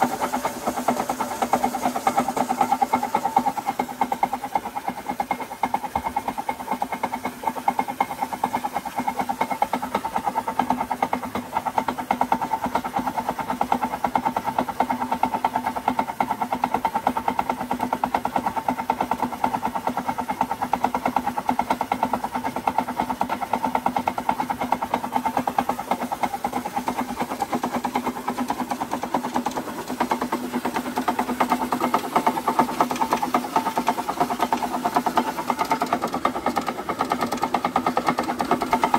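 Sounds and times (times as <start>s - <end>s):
belt-driven machinery humming: 0.0s - 38.9s.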